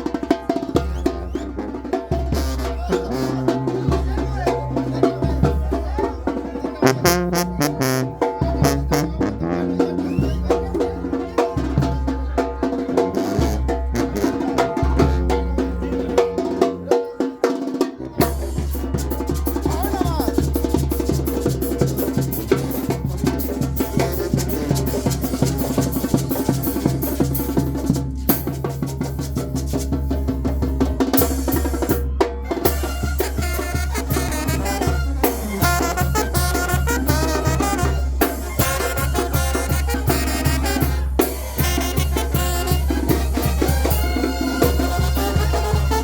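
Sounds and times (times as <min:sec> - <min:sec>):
brass band playing: 0:00.0 - 0:05.6, 0:06.7 - 0:17.2, 0:18.1 - 0:46.0.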